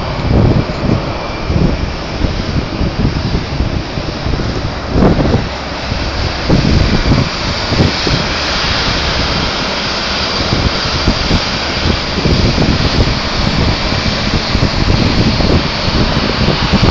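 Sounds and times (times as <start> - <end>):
jet engines hissing: 0.0 - 16.9
wind buffeting microphone: 0.0 - 16.9.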